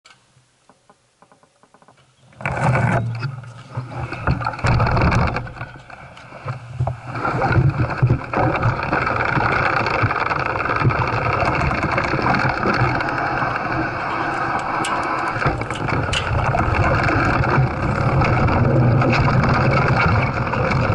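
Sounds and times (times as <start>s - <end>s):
bike rattle: 1.2s - 20.9s
bike tyres on gravel: 2.1s - 20.9s
wind rumble: 2.9s - 20.9s.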